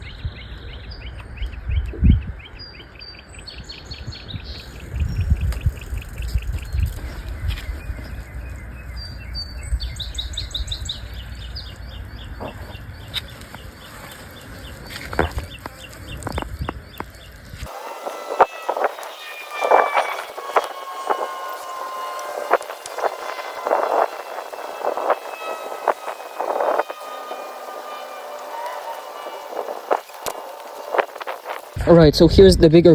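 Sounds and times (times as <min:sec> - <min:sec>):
songbirds chirping: 0:00.0 - 0:31.8
low rumbling microphone noise: 0:00.0 - 0:32.9.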